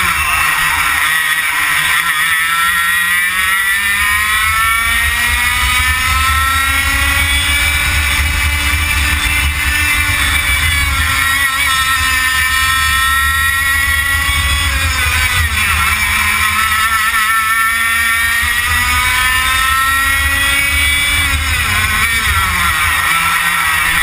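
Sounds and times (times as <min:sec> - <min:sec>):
kart engine revving: 0:00.0 - 0:24.0.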